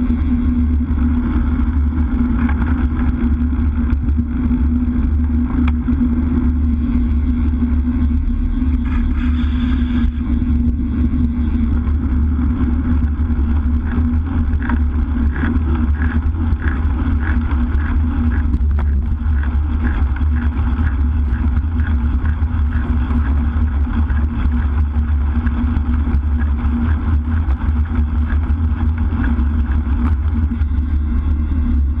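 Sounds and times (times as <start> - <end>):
tyre noise on tarmac: 0.0 - 32.0
wind rushing over camera: 0.0 - 32.0.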